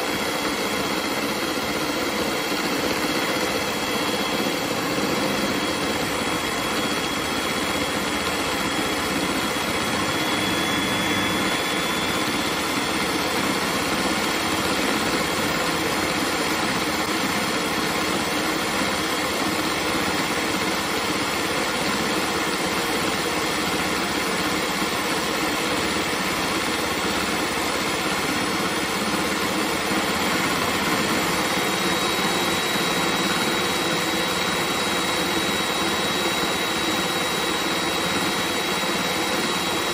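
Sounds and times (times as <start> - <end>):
electric hand mixer whisking: 0.0 - 39.9.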